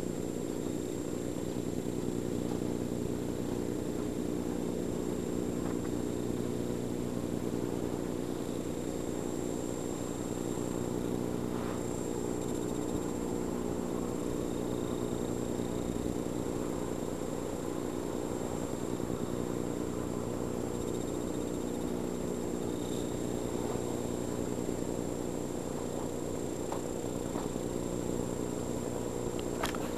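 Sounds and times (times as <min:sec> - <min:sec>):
faint high whine: 0:00.0 - 0:29.9
steady low hum: 0:00.0 - 0:29.9.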